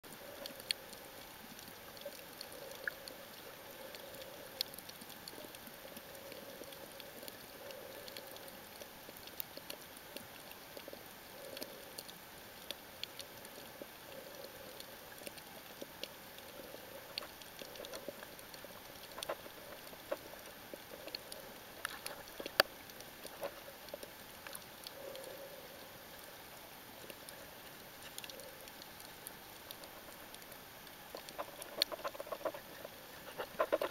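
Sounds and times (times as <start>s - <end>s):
faint underwater hiss: 0.1s - 33.9s
underwater clicks and crackles: 0.1s - 33.9s.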